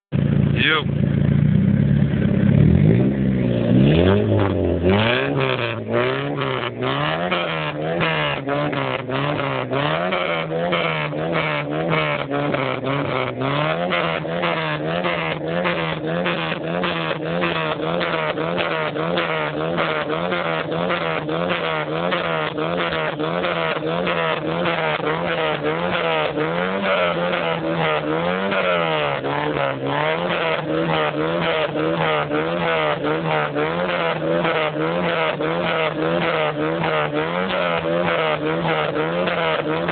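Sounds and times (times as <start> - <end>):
car exhaust revving: 0.1 - 39.9.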